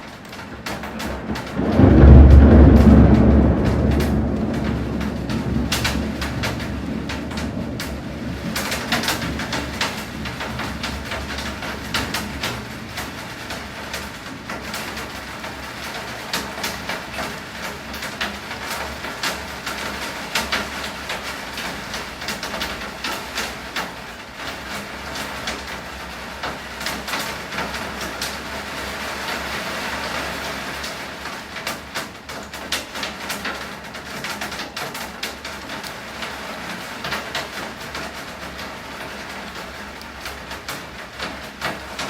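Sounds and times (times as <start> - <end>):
heavy rain: 0.0 - 42.0
raindrops hitting hard surface: 0.0 - 42.0.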